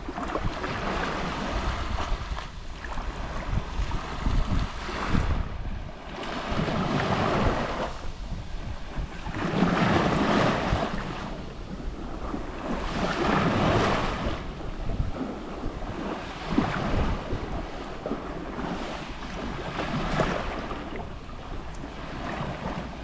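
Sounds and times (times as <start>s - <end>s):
small waves lapping on shore: 0.0s - 23.0s.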